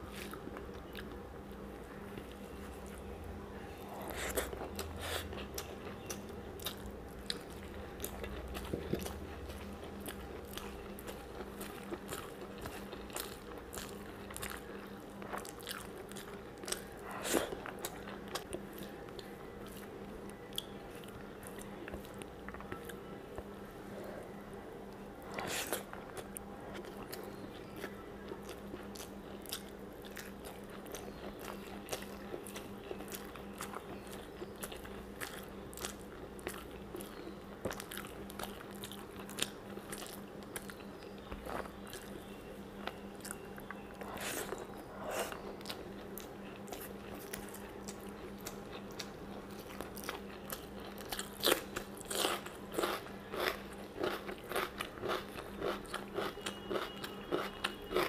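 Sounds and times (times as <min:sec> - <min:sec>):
person chewing food: 0:00.0 - 0:01.2, 0:03.8 - 0:58.0.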